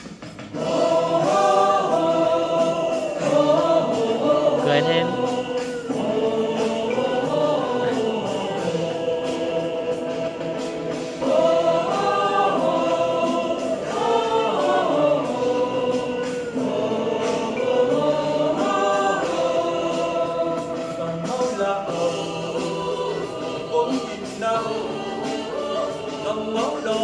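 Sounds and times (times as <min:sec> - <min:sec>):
choral singing: 0:00.0 - 0:27.0
instrumental backing with steady beat: 0:00.0 - 0:27.0.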